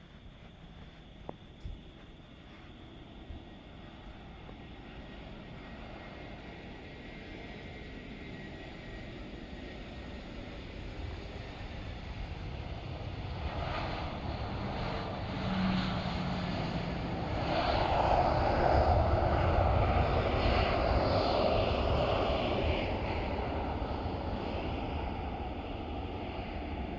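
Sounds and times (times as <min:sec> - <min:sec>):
jet engines passing by: 0:02.3 - 0:26.9.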